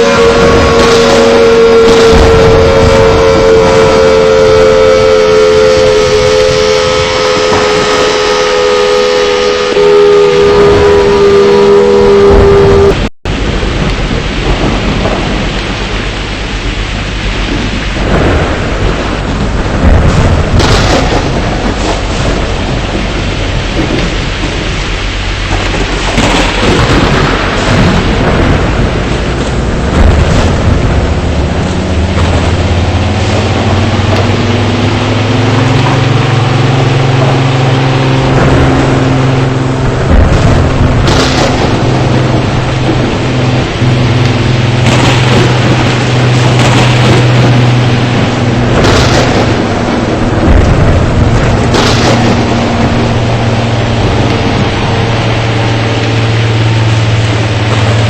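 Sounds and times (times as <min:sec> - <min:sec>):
loud rumbling noise: 0:00.0 - 0:58.0.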